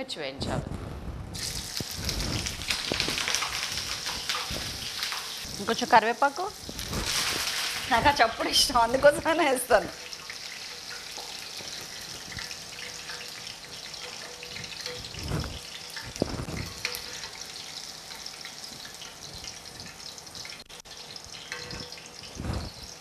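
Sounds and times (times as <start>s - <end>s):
food sizzling in hot oil: 1.3s - 23.0s.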